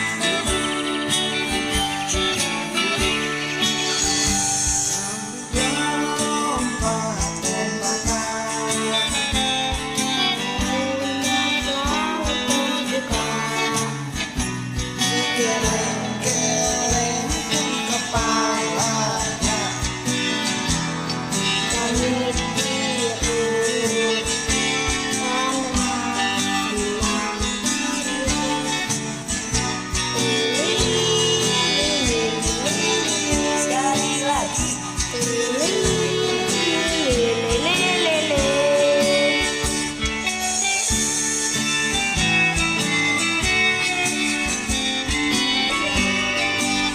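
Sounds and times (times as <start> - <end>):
instrumental backing music with beat: 0.0 - 46.9.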